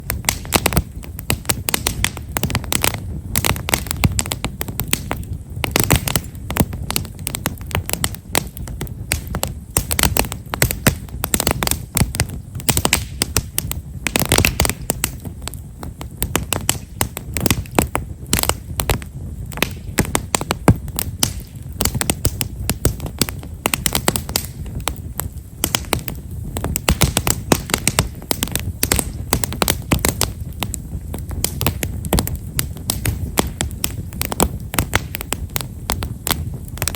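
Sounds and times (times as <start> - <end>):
low fire rumble: 0.0 - 36.9
wood fire crackling and snapping: 0.0 - 36.9.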